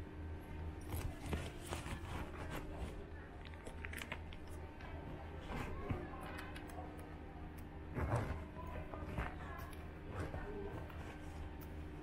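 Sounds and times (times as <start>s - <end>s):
steady low hum: 0.0s - 12.0s
distant murmur of voices: 0.5s - 12.0s.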